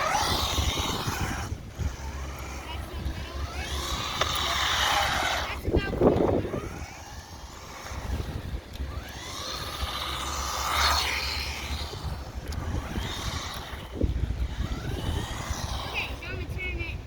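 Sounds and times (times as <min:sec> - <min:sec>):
electric motor whining: 0:00.0 - 0:17.0
wind rumble on microphone: 0:00.0 - 0:17.0.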